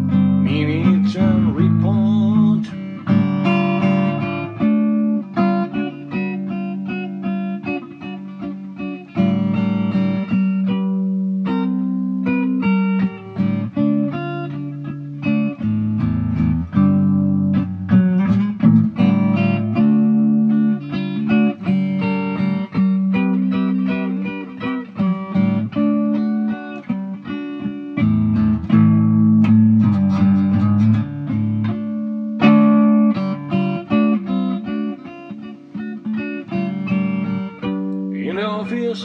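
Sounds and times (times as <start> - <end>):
guitar picking quick melody: 0.0 - 39.0.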